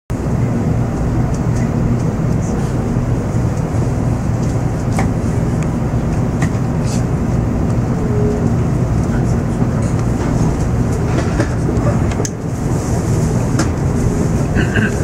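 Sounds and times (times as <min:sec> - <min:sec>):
train running gear hum: 0:00.1 - 0:15.0.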